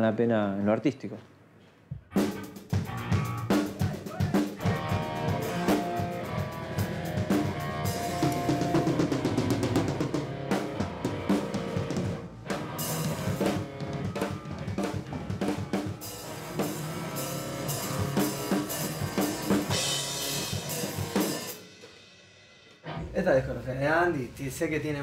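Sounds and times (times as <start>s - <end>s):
rock band playing: 2.1s - 23.7s.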